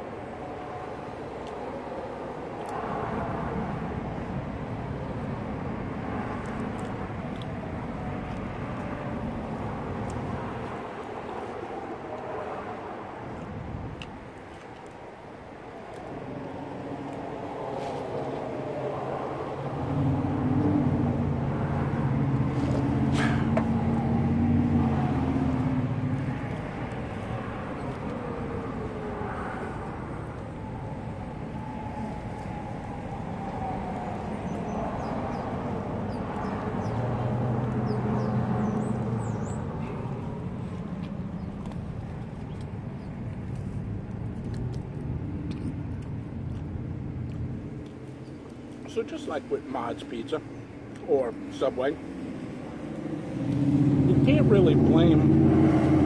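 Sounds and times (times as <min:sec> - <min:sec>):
road traffic rumble: 0:00.0 - 0:56.0
vehicle engine humming: 0:00.0 - 0:56.0.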